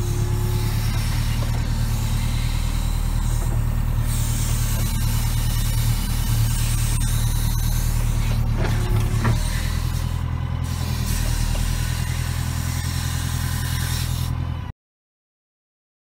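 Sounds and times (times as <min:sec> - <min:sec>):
diesel engine running: 0:00.0 - 0:14.7.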